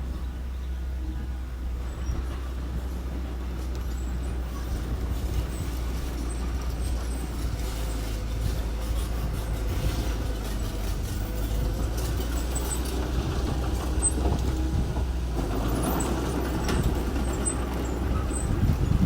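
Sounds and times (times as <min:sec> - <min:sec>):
earthmoving machine engine running: 0:00.0 - 0:19.0
metallic clanking and rattling: 0:01.9 - 0:19.0.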